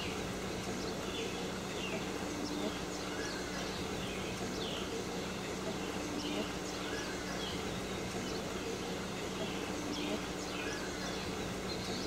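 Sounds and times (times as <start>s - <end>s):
birds chirping: 0.0s - 12.0s
low even hum: 0.0s - 12.0s.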